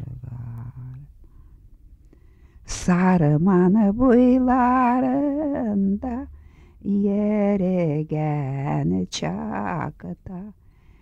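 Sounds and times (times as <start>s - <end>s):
woman singing unaccompanied: 0.0s - 1.1s, 2.7s - 10.6s.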